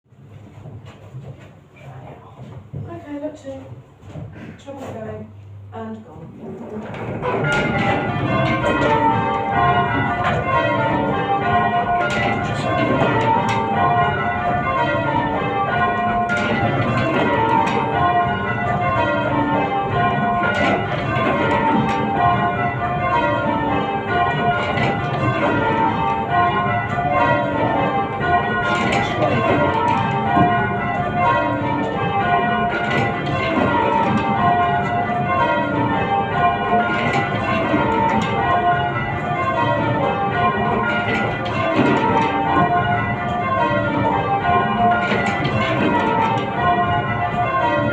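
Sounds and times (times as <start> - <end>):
church bells change ringing: 6.7 - 47.9.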